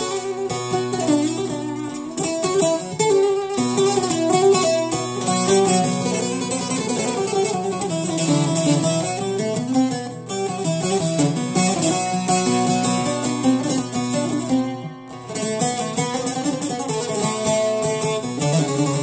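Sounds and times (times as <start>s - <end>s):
plucked lute melody with drone: 0.0s - 19.0s.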